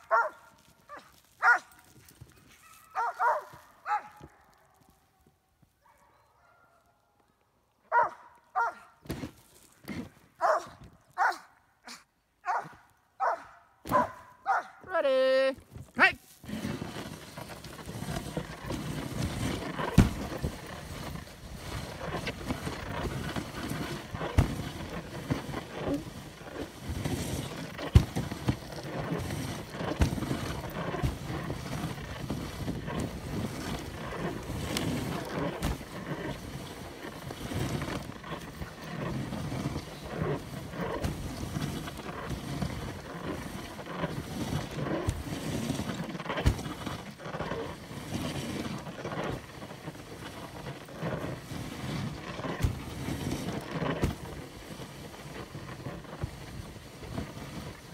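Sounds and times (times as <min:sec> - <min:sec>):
sled runners scraping on snow: 0:00.0 - 0:57.9.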